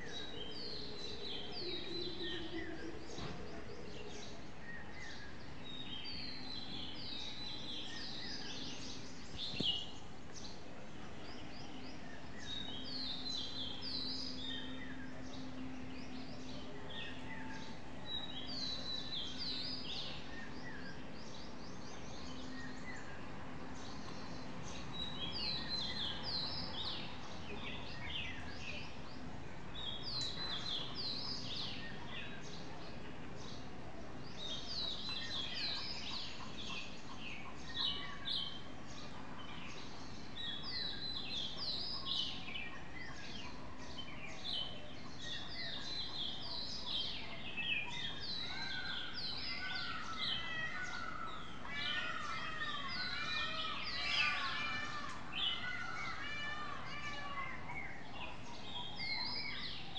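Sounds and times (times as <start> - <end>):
small birds chirping: 0.0 - 59.9
steady background hum: 0.0 - 59.9.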